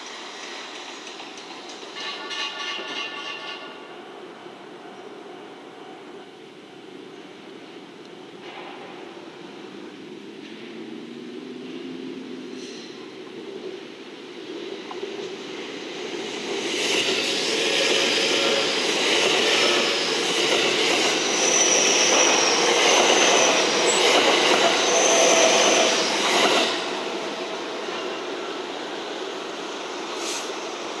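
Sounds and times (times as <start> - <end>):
train wheels rumbling on rails: 0.0 - 6.0, 6.9 - 31.0.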